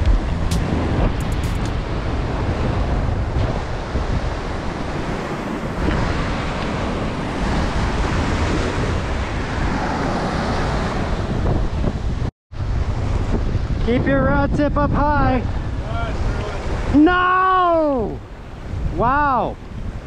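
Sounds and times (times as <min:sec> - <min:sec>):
wind buffeting microphone: 0:00.0 - 0:17.1, 0:17.9 - 0:20.0.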